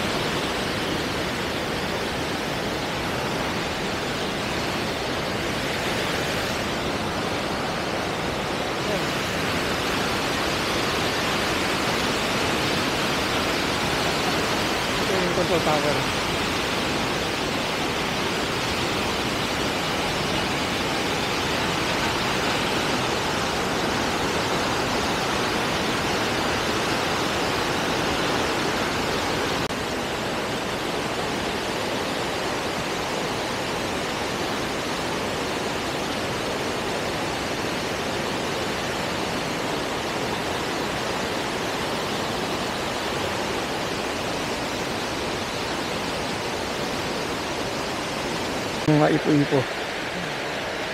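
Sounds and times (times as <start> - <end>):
water gushing from dam: 0.0 - 50.9.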